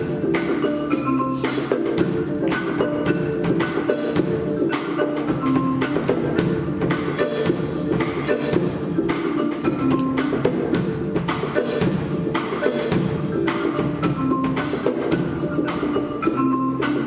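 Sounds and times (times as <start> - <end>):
drum strikes: 0.0 - 17.0
marimba notes: 0.0 - 17.0.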